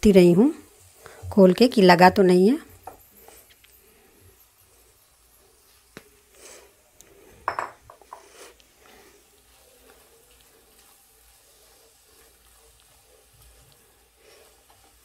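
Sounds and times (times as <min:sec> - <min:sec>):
soft scraping of stirred food: 0:00.3 - 0:15.0.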